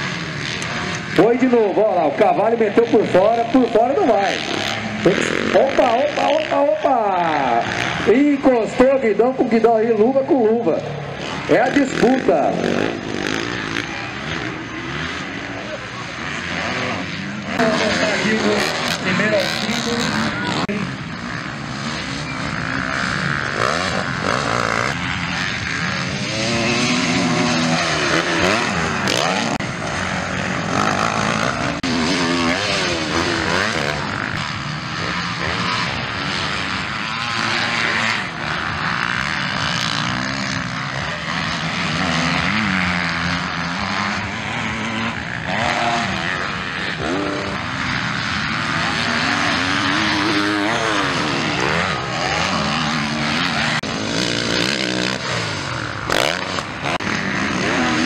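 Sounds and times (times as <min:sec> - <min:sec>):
motocross bikes revving: 0:00.0 - 0:58.0.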